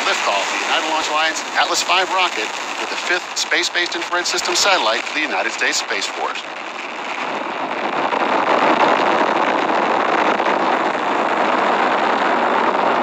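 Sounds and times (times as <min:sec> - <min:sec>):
rocket exhaust roar: 0:00.0 - 0:13.0.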